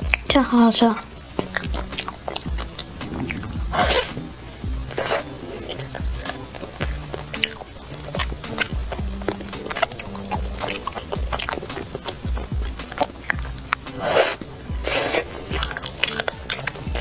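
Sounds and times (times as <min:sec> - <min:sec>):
background music: 0:00.0 - 0:17.0
close chewing and biting: 0:00.0 - 0:17.0.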